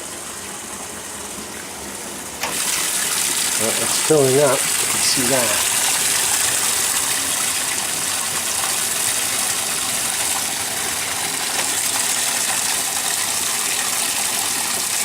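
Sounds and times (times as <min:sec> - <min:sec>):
water pouring into washing machine: 0:00.0 - 0:15.0.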